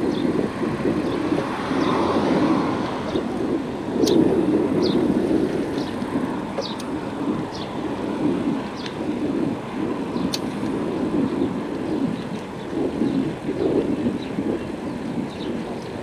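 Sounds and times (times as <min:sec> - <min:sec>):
bicycle tyres rolling on pavement: 0:00.0 - 0:16.0
wind buffeting microphone: 0:00.0 - 0:16.0.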